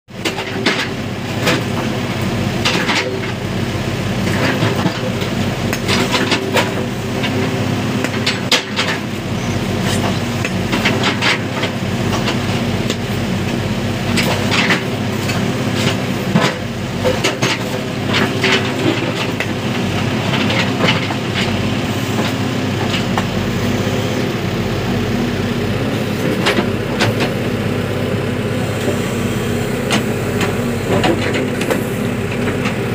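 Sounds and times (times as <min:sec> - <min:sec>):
diesel engine running: 0:00.1 - 0:32.9.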